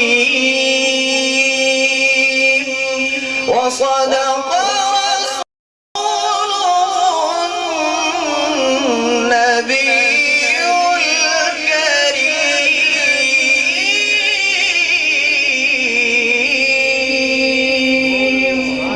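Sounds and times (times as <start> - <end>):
man chanting melodic recitation: 0.0 - 5.4, 6.0 - 18.9.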